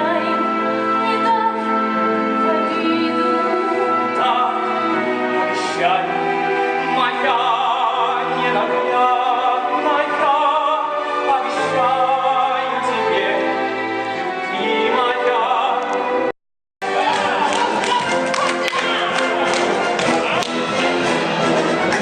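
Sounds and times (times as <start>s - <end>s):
orchestral accompaniment: 0.0s - 22.0s.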